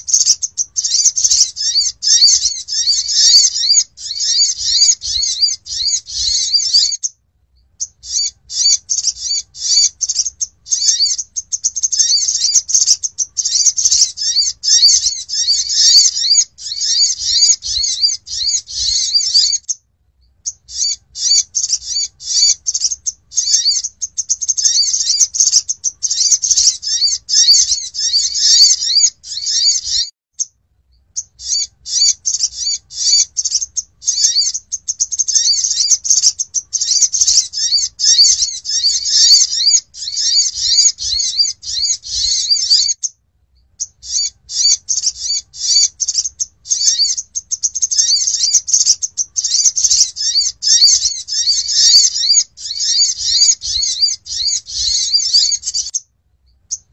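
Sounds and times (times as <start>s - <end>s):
bird chittering twitters: 0.0s - 56.9s.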